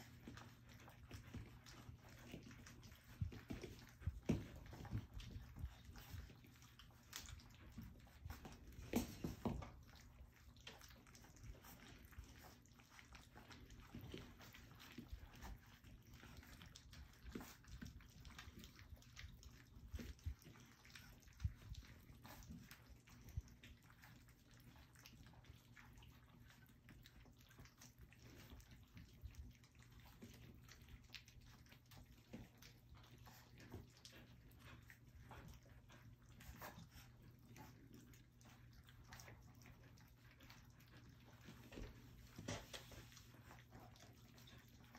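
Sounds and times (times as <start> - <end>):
puppies lapping food from metal pan: 0.0 - 44.9.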